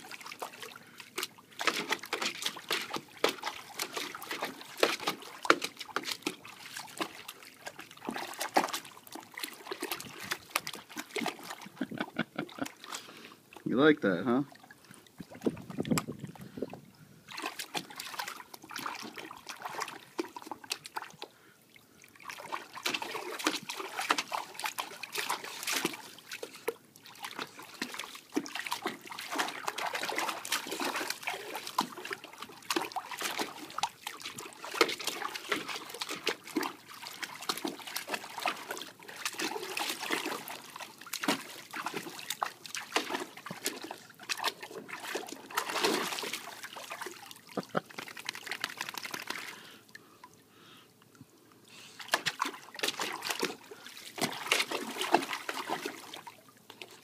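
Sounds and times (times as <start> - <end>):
dog splashing water in pool: 0.0 - 13.6, 14.4 - 16.4, 17.3 - 21.2, 22.0 - 49.7, 52.0 - 57.0.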